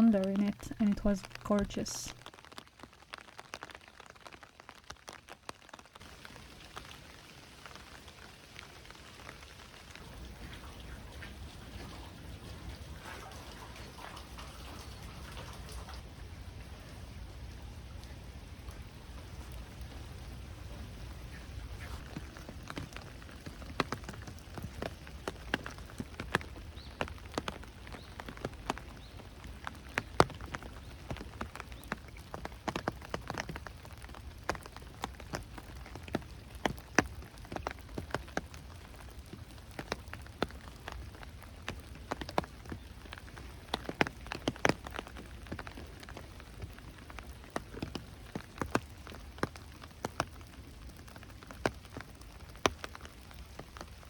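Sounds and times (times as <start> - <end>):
raindrops tapping close by: 0.0 - 54.0
steady rain: 0.0 - 54.0.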